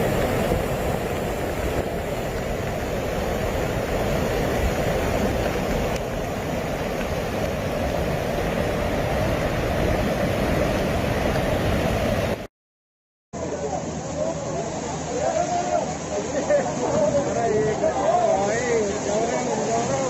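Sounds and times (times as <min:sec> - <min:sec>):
floodwater roaring: 0:00.0 - 0:12.5, 0:13.4 - 0:20.0.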